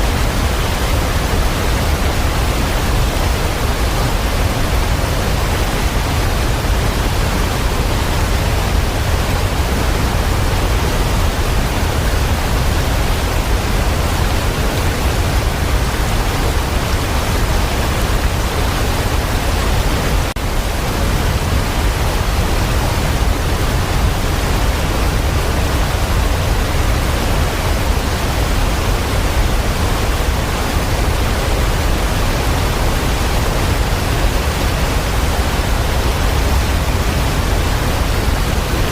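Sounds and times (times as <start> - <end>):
heavy rain rushing: 0.0 - 38.9.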